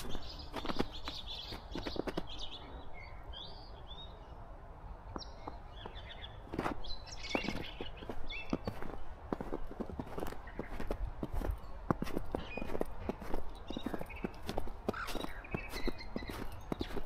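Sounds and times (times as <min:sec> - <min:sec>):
footsteps in snow: 0:00.0 - 0:02.6, 0:05.2 - 0:17.0
small birds chirping: 0:00.0 - 0:17.0.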